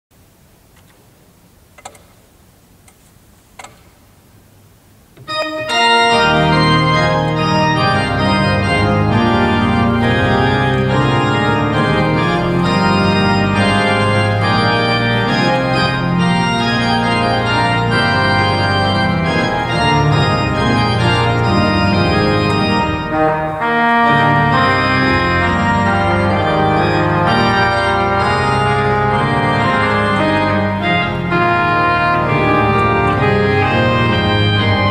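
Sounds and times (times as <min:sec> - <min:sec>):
organ playing sustained chords: 0:05.2 - 0:34.9.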